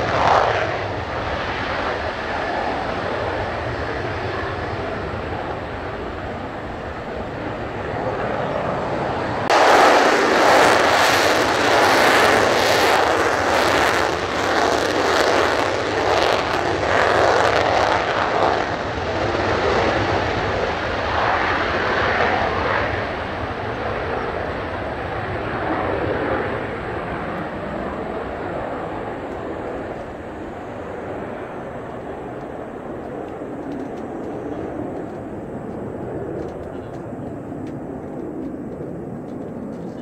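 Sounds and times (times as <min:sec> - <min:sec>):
jet afterburner roar: 0:00.0 - 0:40.0.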